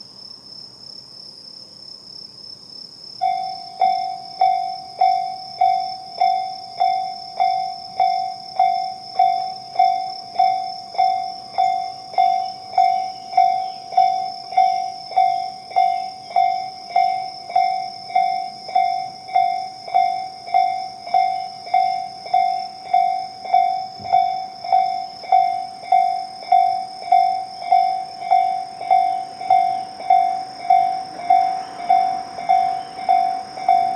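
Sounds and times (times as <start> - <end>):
level-crossing warning bell dinging: 3.2 - 33.9.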